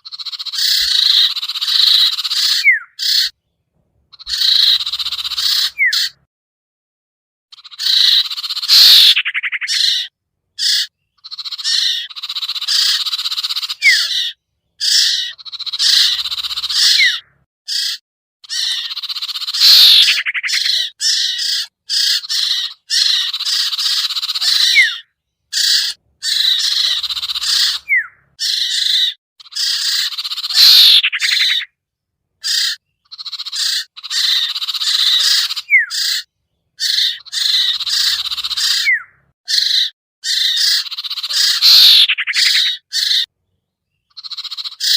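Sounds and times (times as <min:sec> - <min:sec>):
bird calls: 0:00.0 - 0:03.5, 0:04.1 - 0:06.3, 0:07.5 - 0:31.8, 0:32.4 - 0:44.9.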